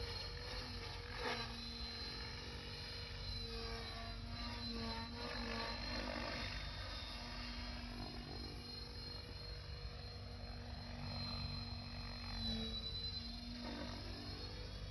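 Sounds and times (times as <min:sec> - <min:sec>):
rc helicopter rotor and motor hum: 0:00.0 - 0:14.9.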